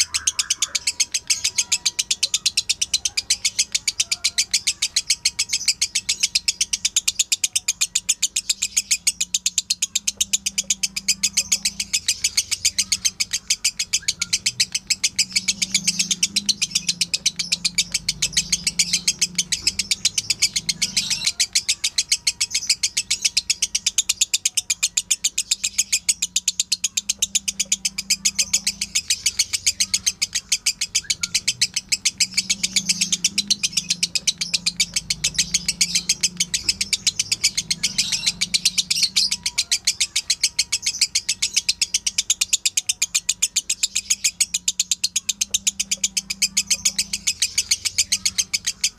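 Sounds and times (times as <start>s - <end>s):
lovebird rapid high chirps: 0.0s - 48.9s.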